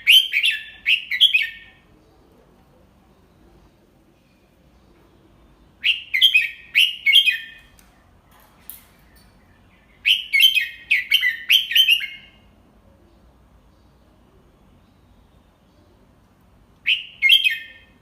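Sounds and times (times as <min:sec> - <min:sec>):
bulbul singing: 0:03.0 - 0:18.0.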